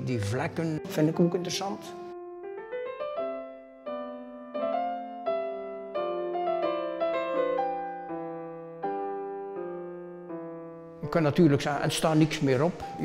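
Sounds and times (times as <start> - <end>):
slow solo piano: 1.8 - 13.0.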